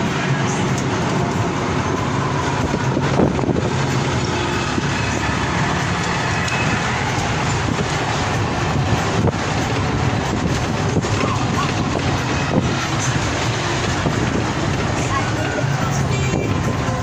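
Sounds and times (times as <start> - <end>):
bus engine running: 0.0 - 17.0
road and wind noise: 0.0 - 17.0.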